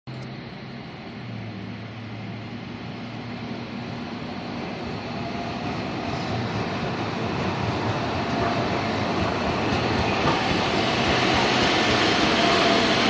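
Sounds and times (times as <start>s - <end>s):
tram rolling on track: 0.1s - 13.0s.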